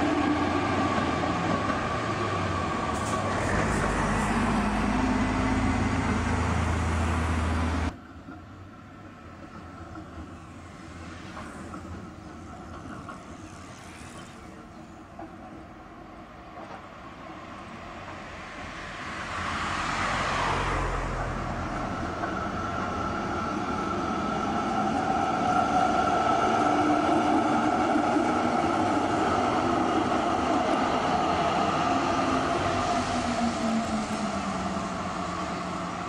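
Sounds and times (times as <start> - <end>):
car passing by: 0.0 - 8.0, 10.2 - 15.3, 18.1 - 36.0.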